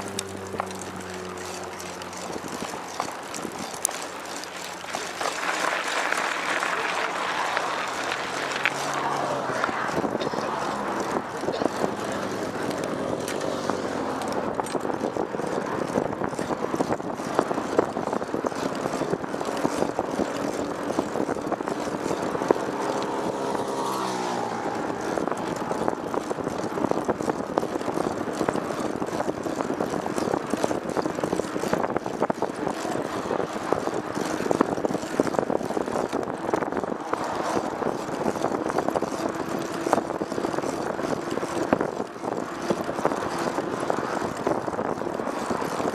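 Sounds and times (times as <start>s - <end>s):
road and wind noise: 0.0s - 45.9s
vehicle engine running: 0.0s - 45.9s.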